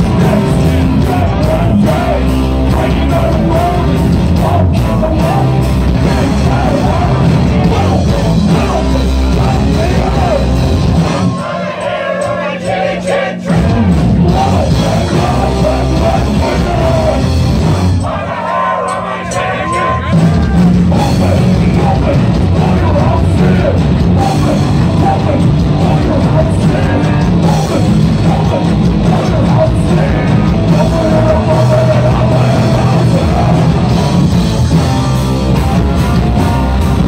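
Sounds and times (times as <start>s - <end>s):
person yelling singing: 0.0s - 10.6s, 11.3s - 17.4s, 18.0s - 34.2s
distorted electric guitar: 0.0s - 11.6s, 13.4s - 18.3s, 19.3s - 37.0s
drums: 0.0s - 37.0s
punk rock band playing live: 0.0s - 37.0s.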